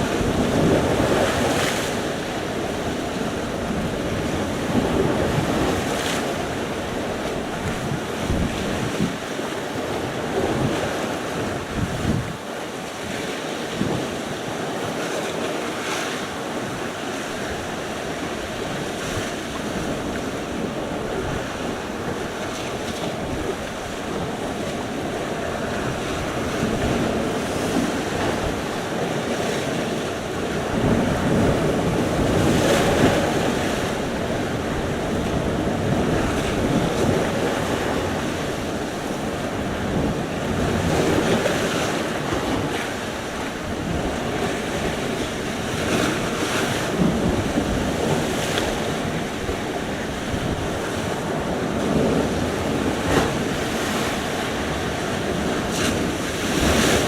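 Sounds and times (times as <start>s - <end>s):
wind buffeting microphone: 0.0s - 12.4s, 16.6s - 57.0s
waves breaking on shore: 0.0s - 57.0s.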